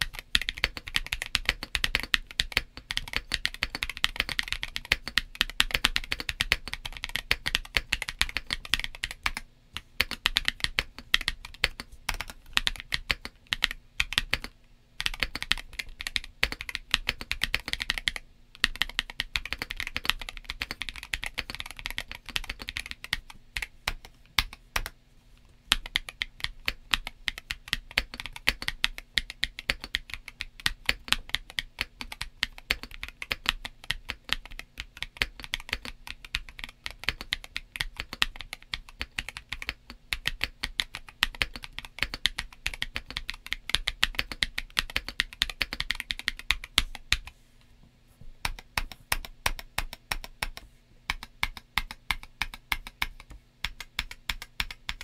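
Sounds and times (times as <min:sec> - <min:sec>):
keyboard typing: 0:00.0 - 0:25.0, 0:25.7 - 0:47.3, 0:48.4 - 0:55.0.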